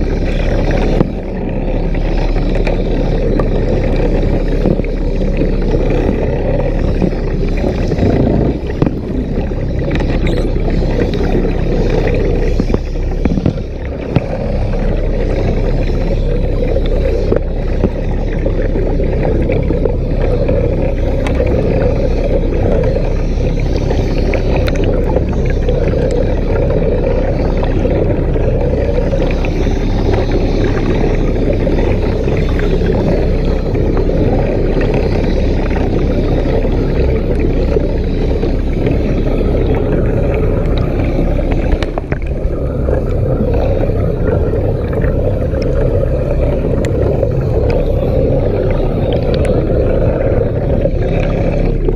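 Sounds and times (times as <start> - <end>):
underwater rumble of submarine: 0.0 - 51.9
water rushing past hull: 0.0 - 51.9.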